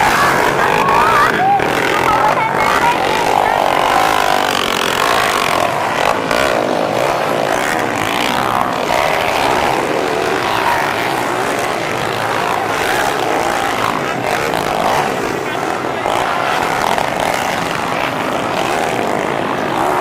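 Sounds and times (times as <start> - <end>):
motorcycle engines racing: 0.0 - 20.0.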